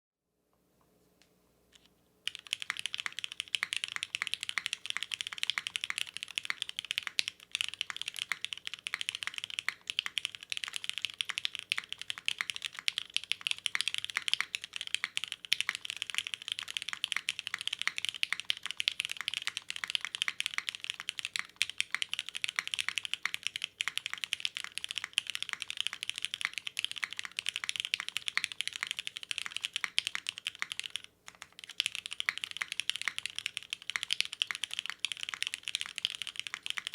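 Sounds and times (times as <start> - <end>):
fast typing on mechanical keyboard: 2.3 - 36.9.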